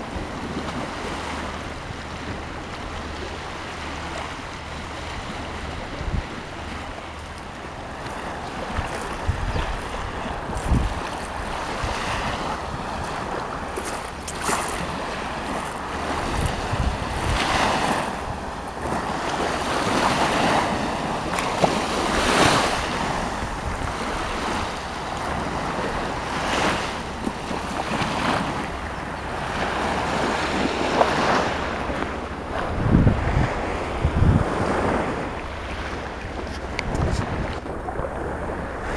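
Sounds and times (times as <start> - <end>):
sea waves breaking: 0.0 - 38.9
wind buffeting microphone: 0.0 - 38.9.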